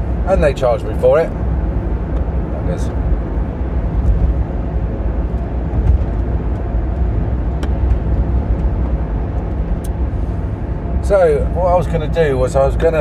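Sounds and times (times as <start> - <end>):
car engine rumble: 0.0 - 13.0
road noise inside car: 0.0 - 13.0.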